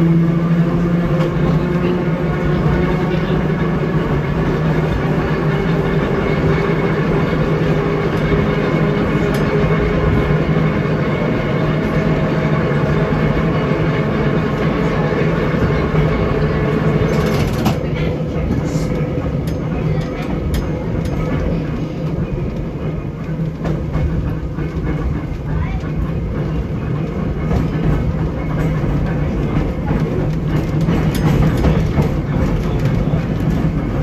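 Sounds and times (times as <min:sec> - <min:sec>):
traction motor hum: 0:00.0 - 0:34.0
wheels rumbling on rails: 0:00.0 - 0:34.0.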